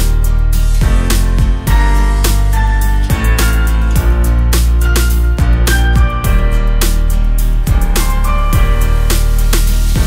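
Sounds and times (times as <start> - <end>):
instrumental music with beat: 0.0 - 10.0.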